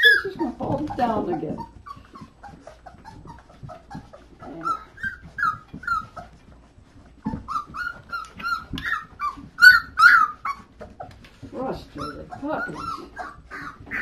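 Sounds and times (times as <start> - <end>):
puppies whining and squealing: 0.0 - 14.0.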